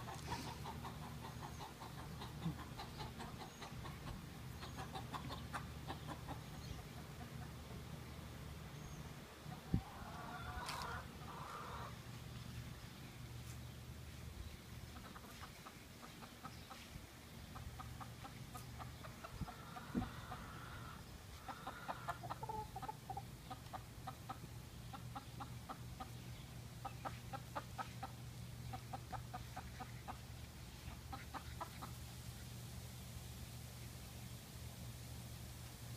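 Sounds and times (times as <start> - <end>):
hens clucking: 0.0 - 8.2, 9.4 - 12.6, 14.7 - 32.2
low steady hum: 0.0 - 35.9.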